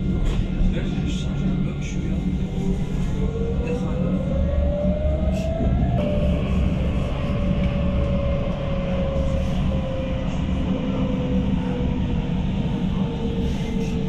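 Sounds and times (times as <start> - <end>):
tram rumbling with motor whine: 0.0 - 14.0.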